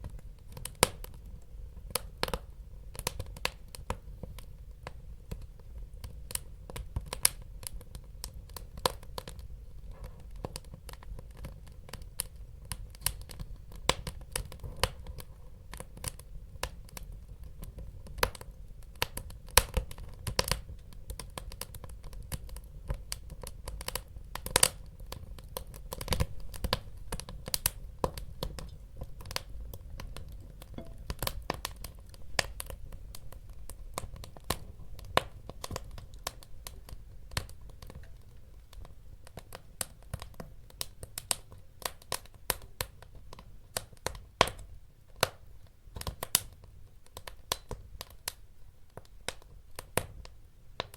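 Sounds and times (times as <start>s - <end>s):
low rumble of burning logs: 0.0s - 50.9s
wood fire crackling and popping: 0.0s - 50.9s.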